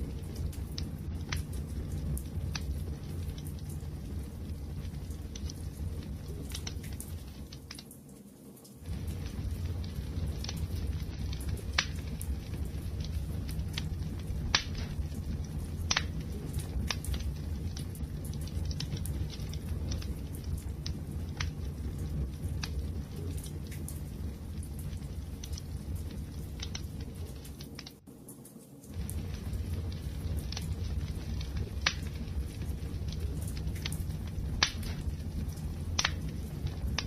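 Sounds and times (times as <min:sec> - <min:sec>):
fire pops and snaps: 0:00.0 - 0:37.0
wood fire crackling: 0:00.0 - 0:37.0.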